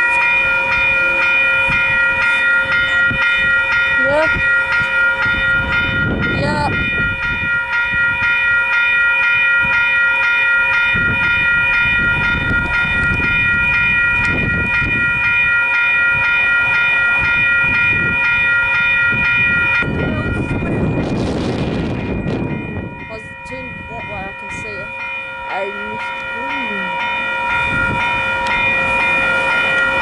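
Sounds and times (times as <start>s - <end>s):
level crossing bells ringing: 0.0s - 30.0s.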